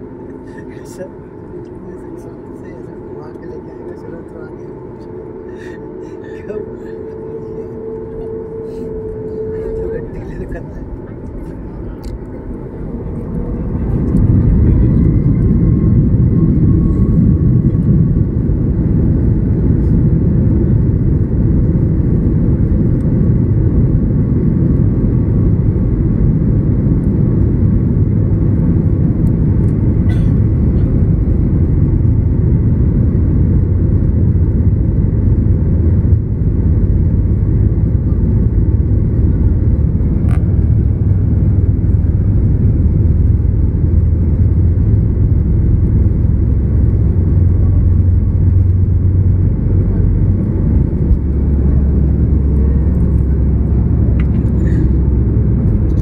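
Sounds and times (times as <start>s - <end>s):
faint whine: 0.0s - 56.0s
rumble of engines and wheels: 0.0s - 56.0s.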